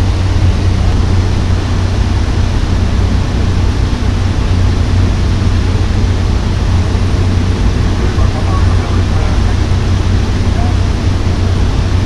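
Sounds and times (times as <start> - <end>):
turboprop engine drone in cabin: 0.0 - 12.0.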